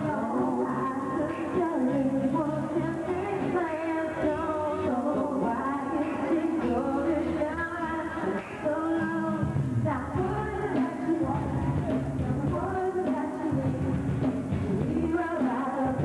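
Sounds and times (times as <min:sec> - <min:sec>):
live pop song with women singing: 0:00.0 - 0:16.0.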